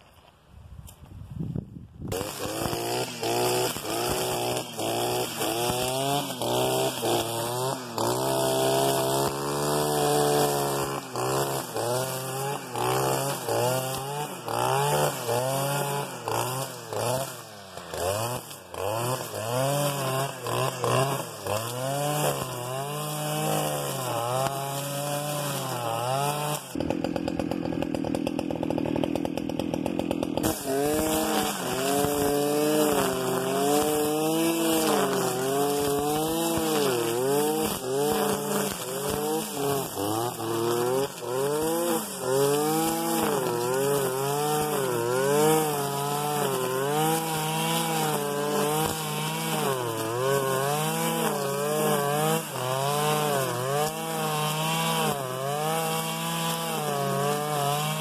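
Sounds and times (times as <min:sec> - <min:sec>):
trimmer line cutting grass: 0:02.0 - 0:58.0
brushcutter engine revving: 0:02.1 - 0:58.0.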